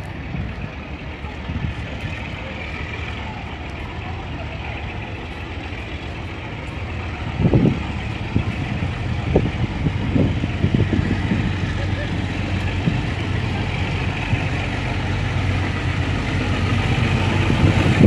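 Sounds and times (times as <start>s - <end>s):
distant diesel locomotive rumbling: 0.0s - 18.0s.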